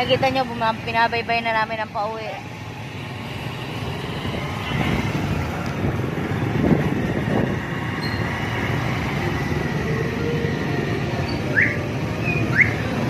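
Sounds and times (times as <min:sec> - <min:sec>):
road noise: 0:00.0 - 0:13.0
street traffic: 0:00.0 - 0:13.0.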